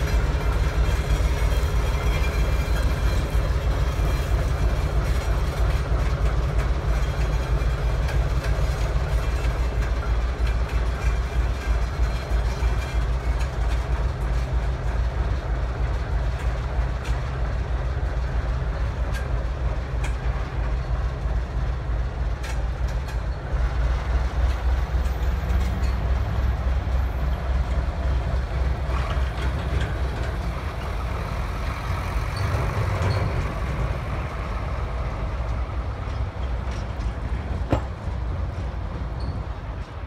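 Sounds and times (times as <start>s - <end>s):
diesel locomotive engine rumble: 0.0s - 40.0s.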